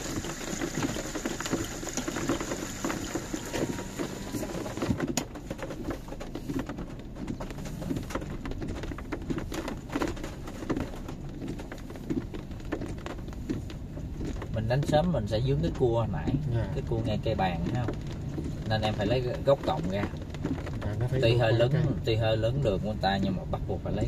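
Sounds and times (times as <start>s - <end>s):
low rumble of moving car: 0.0s - 24.0s
rain pattering on car roof: 0.0s - 24.0s.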